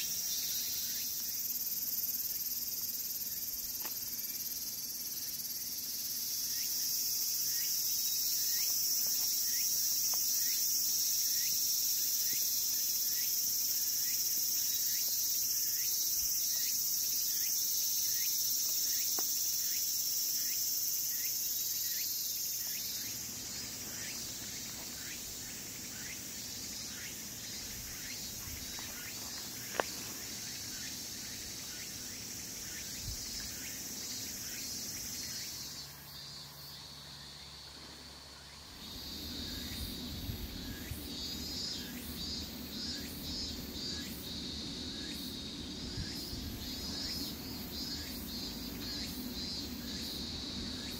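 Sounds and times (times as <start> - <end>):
insects buzzing drone: 0.0 - 50.9.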